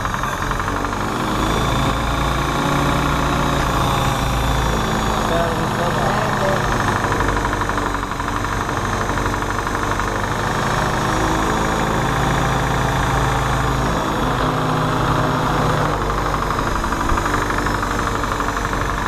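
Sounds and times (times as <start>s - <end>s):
jeep engine idling: 0.0s - 19.0s.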